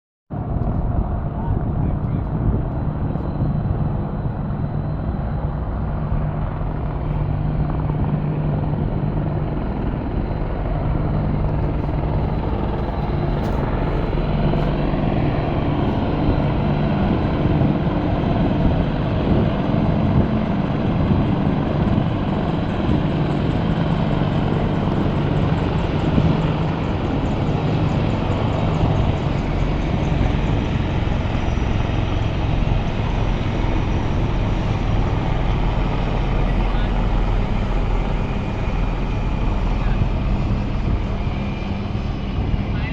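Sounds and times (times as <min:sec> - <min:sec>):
helicopter rotor chop and engine: 0:00.3 - 0:42.9.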